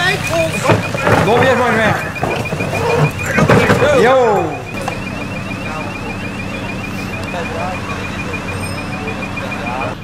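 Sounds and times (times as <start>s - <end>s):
voices shouting: 0.0s - 10.0s.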